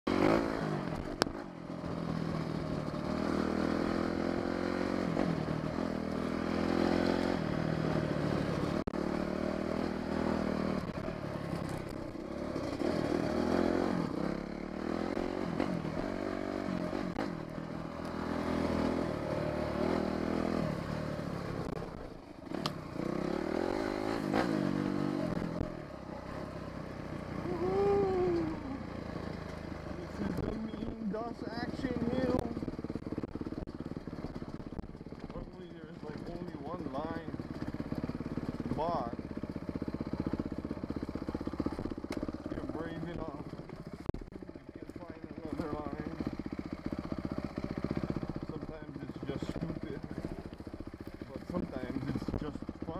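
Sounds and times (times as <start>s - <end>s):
dirt bike engine revving: 0.1s - 52.9s.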